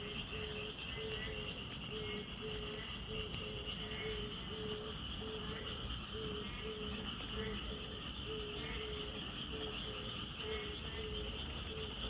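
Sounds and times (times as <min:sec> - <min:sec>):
high-pitched frog chorus: 0:00.0 - 0:12.0.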